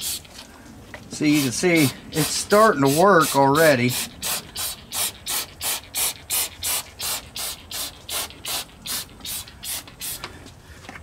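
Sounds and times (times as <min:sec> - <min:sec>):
spray bottle hissing squirts: 0:00.0 - 0:00.4, 0:01.3 - 0:10.2.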